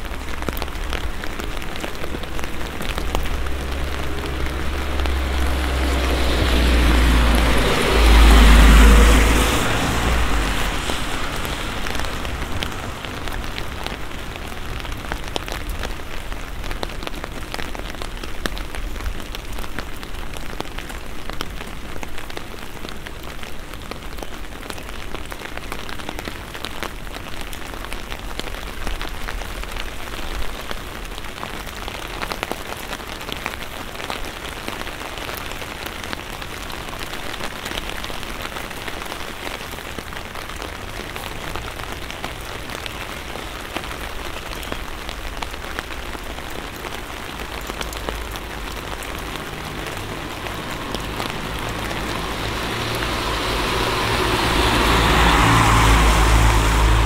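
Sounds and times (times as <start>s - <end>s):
rain on a wet street: 0.0s - 57.0s.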